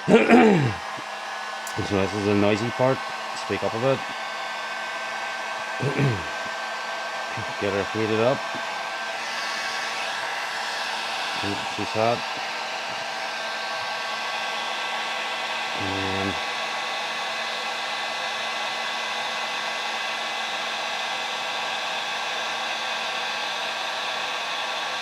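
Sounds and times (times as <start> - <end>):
electric heat gun running: 0.0 - 25.0.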